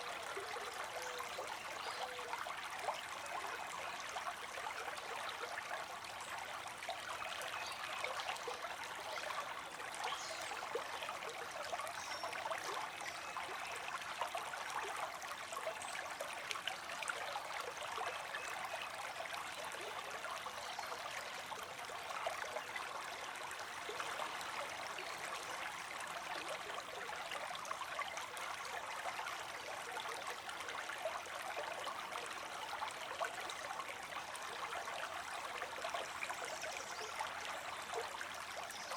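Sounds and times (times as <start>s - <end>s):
creek running over rocks: 0.0s - 38.9s.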